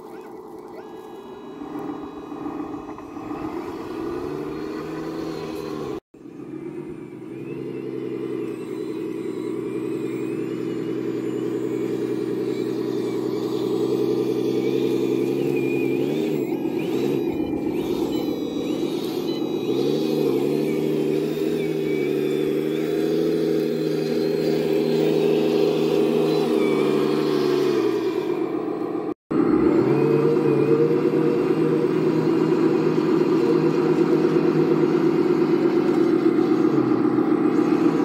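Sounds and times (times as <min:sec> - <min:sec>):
toy truck diesel engine sound: 0:00.0 - 0:38.0.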